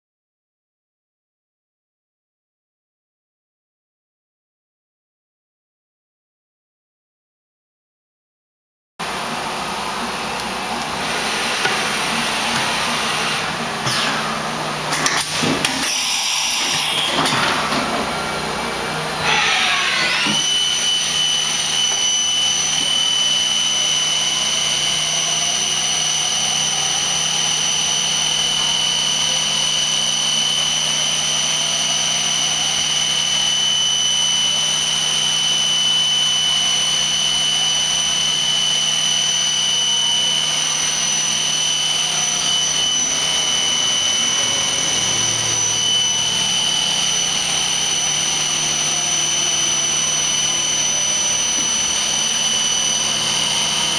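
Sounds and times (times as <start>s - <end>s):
machine spindle whine: 9.0s - 53.9s.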